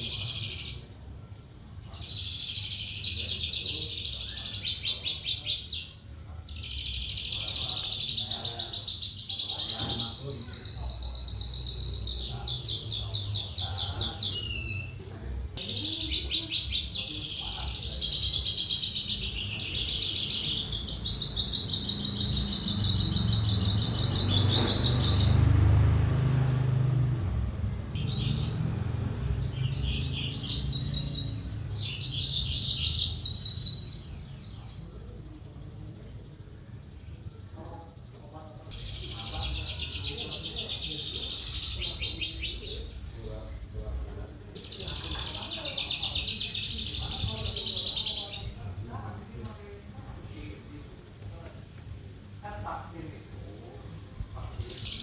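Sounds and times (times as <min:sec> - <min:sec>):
bird song with fast trills: 0:00.0 - 0:27.2, 0:27.9 - 0:55.0.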